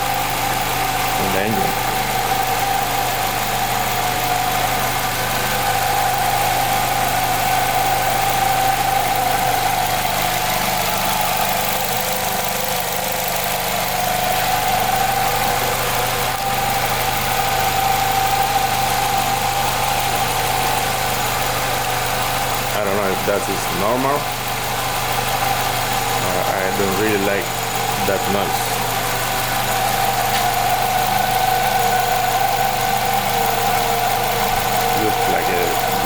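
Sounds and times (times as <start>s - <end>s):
car engine idling with whine: 0.0s - 36.0s.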